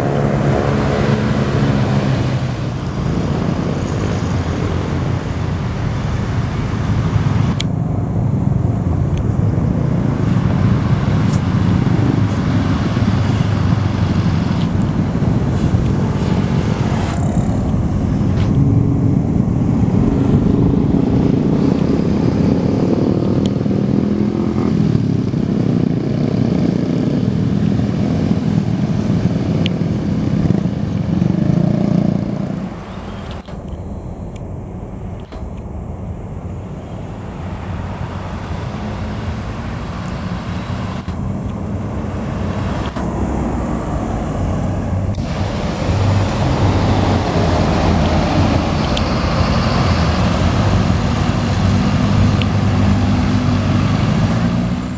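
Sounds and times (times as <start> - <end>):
loud low engine sound: 0.0 - 54.9
traffic noise: 0.0 - 54.9
vehicle engines passing: 0.0 - 54.9.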